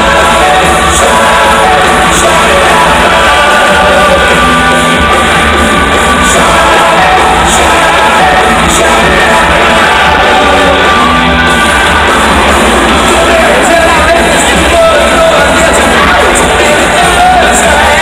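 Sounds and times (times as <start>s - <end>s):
loud rock music with singing: 0.0s - 18.0s
shouted vocals: 0.0s - 18.0s.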